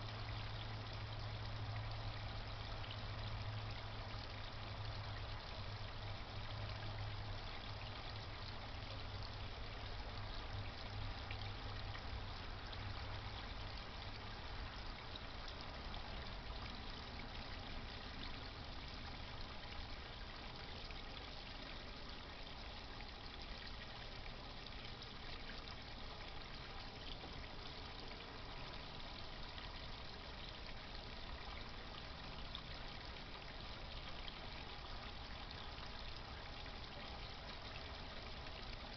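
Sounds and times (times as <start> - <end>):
low pump hum: 0.0 - 38.9
water splashing and trickling: 0.0 - 38.9.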